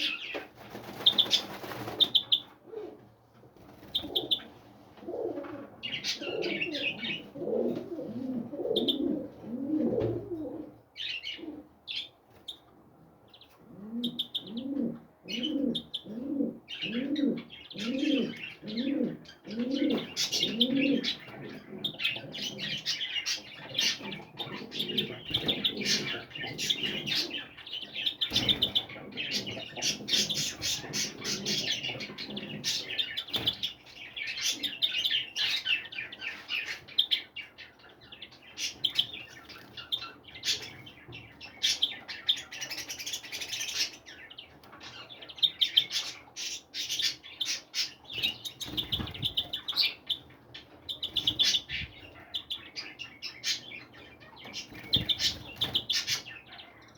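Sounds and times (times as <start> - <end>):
small birds chirping: 0.0 - 2.6, 3.6 - 56.9.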